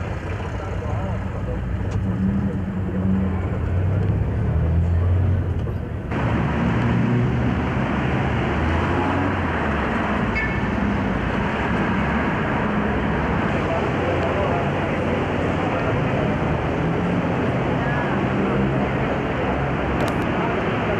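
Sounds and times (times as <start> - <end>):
street traffic rumble: 0.0 - 20.9.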